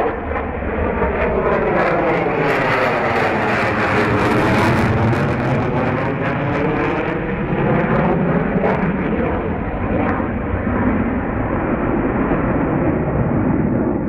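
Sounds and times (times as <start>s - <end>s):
jet engines roaring in flight: 0.0s - 14.0s.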